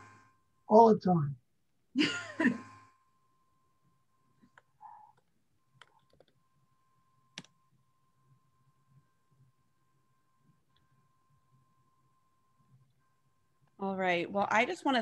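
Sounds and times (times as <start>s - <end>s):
faint steady high tone: 0.0s - 15.0s.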